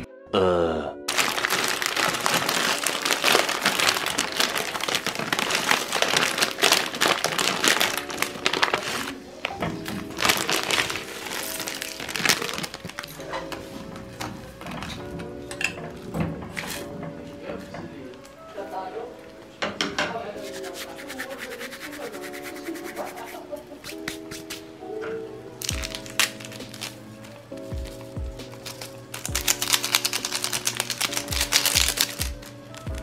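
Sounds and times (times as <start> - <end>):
background music: 0.0 - 33.0.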